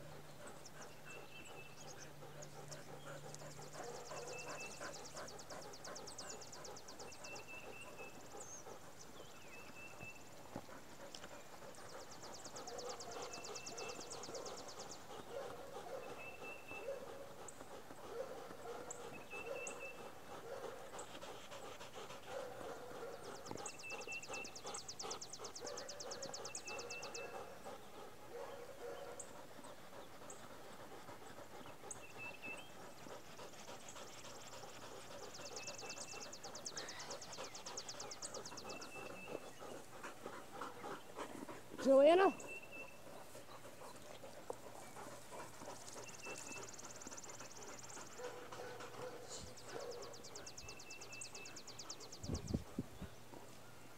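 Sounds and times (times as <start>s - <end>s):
dog panting: 0.0s - 53.9s.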